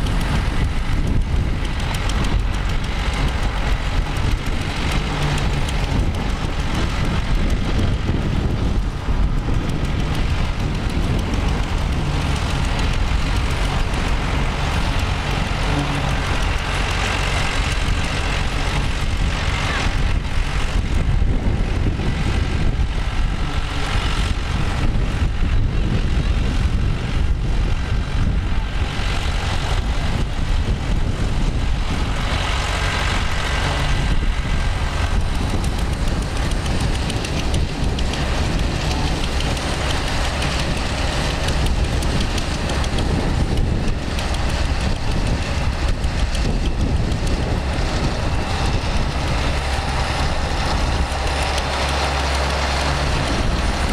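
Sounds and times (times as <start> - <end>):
tractor engines under load: 0.0 - 53.9.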